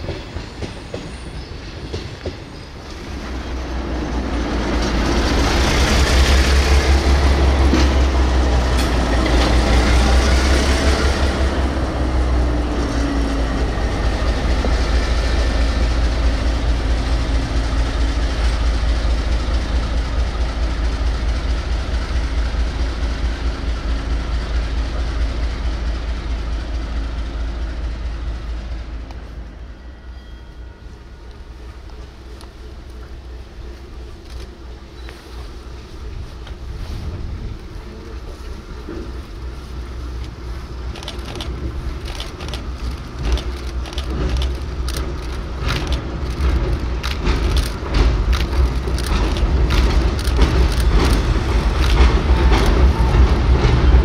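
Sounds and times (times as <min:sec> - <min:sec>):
train wheels clicking over rail joints: 0:00.0 - 0:29.7, 0:31.2 - 0:54.0
diesel locomotive engine droning: 0:00.0 - 0:54.0.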